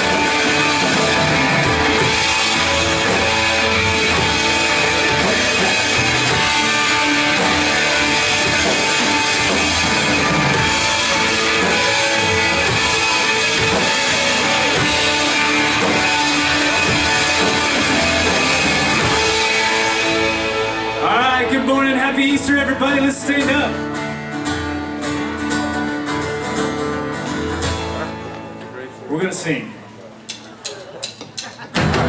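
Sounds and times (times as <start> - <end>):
rock band playing: 0.0 - 29.0, 31.2 - 32.0.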